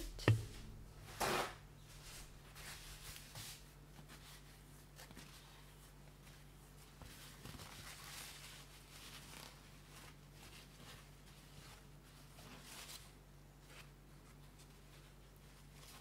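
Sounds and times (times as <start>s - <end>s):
faint low hum: 0.0s - 16.0s
paper towel rustling: 0.0s - 16.0s.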